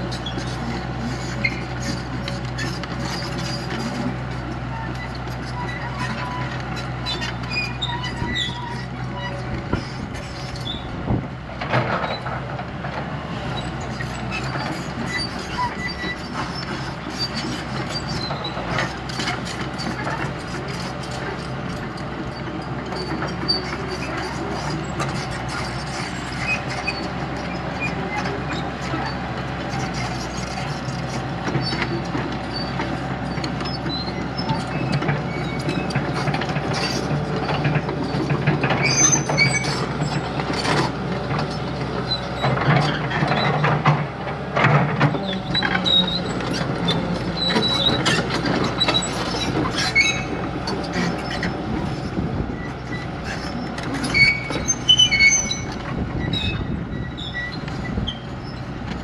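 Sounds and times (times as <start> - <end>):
excavator diesel engine running: 0.0 - 59.0
metal track squeaks and knocks: 0.0 - 59.0.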